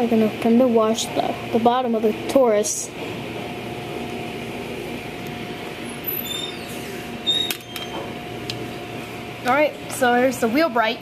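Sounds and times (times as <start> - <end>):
steady motor hum: 0.0 - 11.0.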